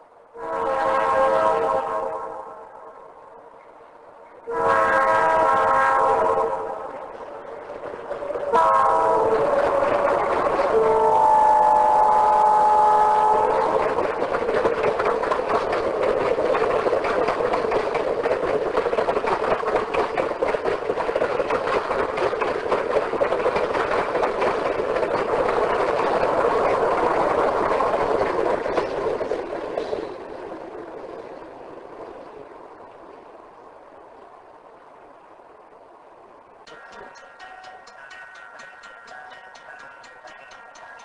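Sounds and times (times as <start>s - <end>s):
train rumbling past: 0.0s - 41.0s
wheels clattering on rail: 3.4s - 33.6s, 36.4s - 41.0s.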